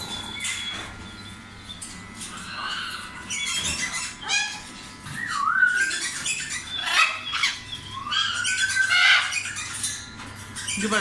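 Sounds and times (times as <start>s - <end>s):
long gliding bird whistles: 0.0s - 9.7s
birds rasping calls and chirps: 0.0s - 11.0s.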